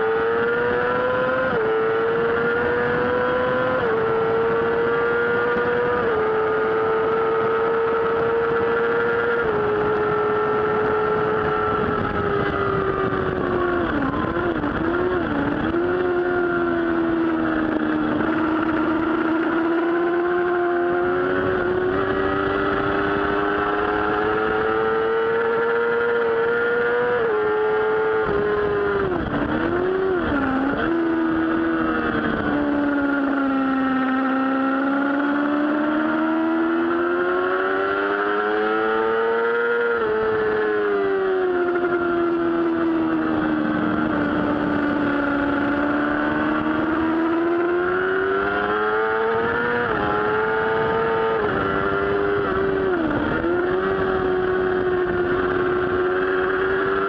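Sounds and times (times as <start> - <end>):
motorcycle engine revving high: 0.0 - 57.0.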